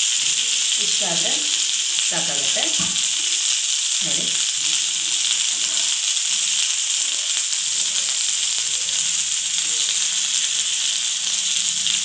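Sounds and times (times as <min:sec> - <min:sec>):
okra sizzling in oil: 0:00.0 - 0:12.0.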